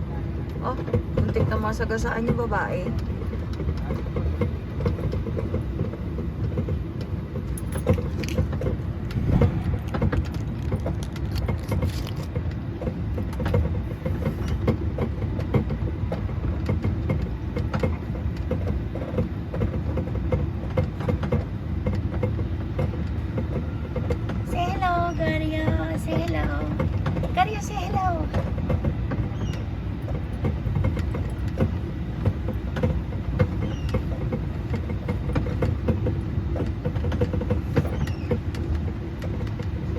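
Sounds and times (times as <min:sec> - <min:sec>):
ride-on train rumble: 0:00.0 - 0:39.9
light rattles and clicks: 0:00.4 - 0:39.9.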